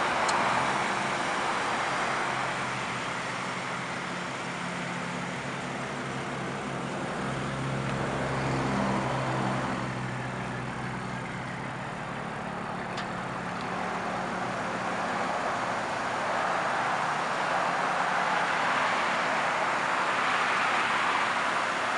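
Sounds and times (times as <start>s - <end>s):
low engine hum: 0.0s - 21.9s
tyre and road noise: 0.0s - 21.9s.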